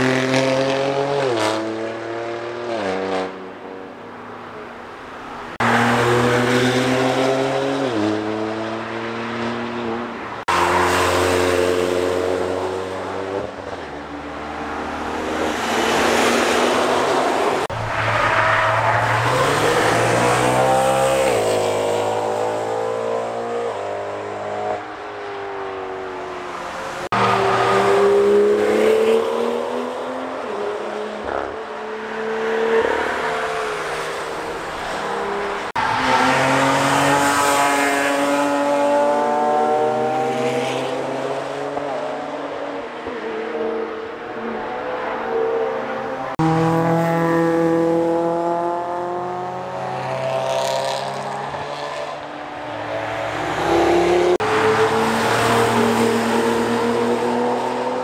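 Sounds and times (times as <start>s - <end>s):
race cars revving past: 0.0s - 3.9s, 5.5s - 58.0s.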